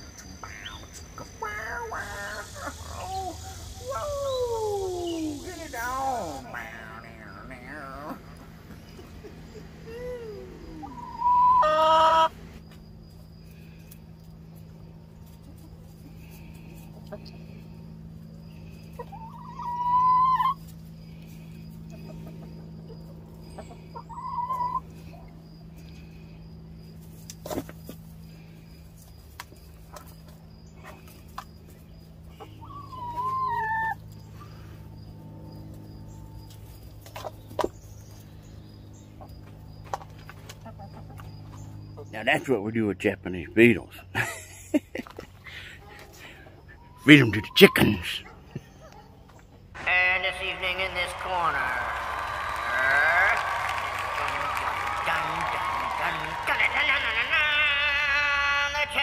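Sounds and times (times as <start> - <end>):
hens calling: 0.0 - 12.6, 15.2 - 26.2, 27.3 - 38.4, 39.1 - 42.6, 45.6 - 49.0, 49.8 - 59.0
steady low hum: 0.0 - 57.3.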